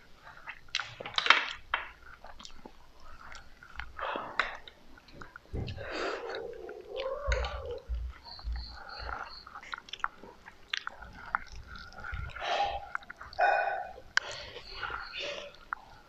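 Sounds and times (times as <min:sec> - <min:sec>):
chewing and biting food: 0:00.2 - 0:16.0.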